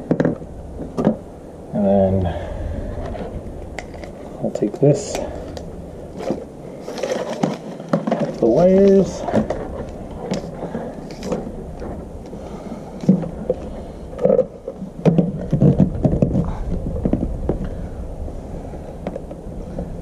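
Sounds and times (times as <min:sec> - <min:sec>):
steady low rumble: 0:00.0 - 0:20.0
wires rustling and scraping: 0:00.0 - 0:20.0.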